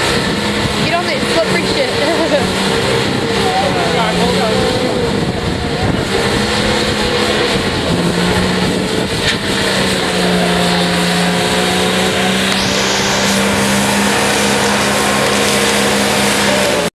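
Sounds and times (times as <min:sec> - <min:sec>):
engine revving high: 0:00.0 - 0:16.9.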